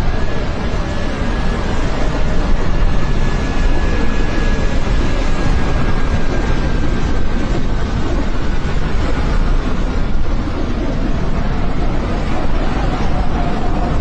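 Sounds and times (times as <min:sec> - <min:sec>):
airplane engines running: 0:00.0 - 0:14.0.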